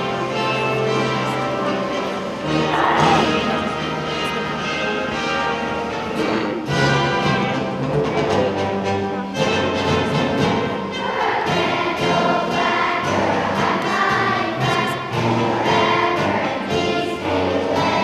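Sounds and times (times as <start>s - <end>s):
children's choir singing: 0.0s - 18.0s
instrumental accompaniment: 0.0s - 18.0s.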